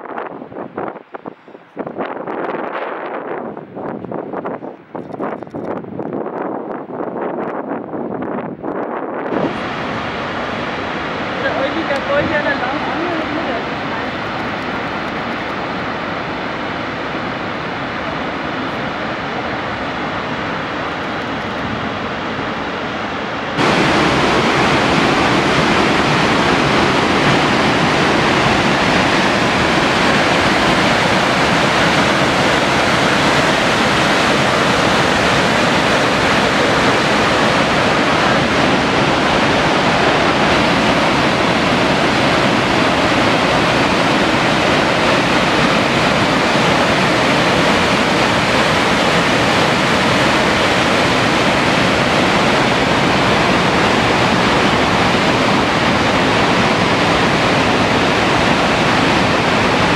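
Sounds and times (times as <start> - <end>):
waterfall rushing: 9.3 - 59.9.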